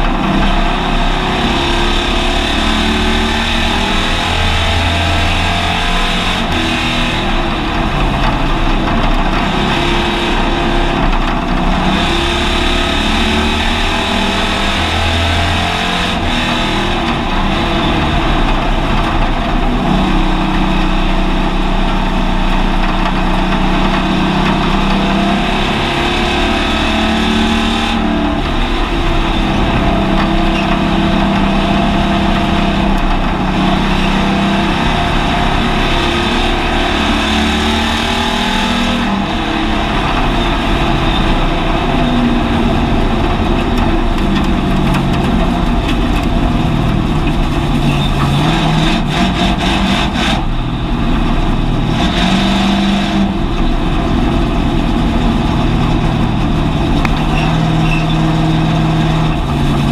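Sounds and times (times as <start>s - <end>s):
race car engine under load: 0.0s - 59.9s
road and wind noise: 0.0s - 59.9s.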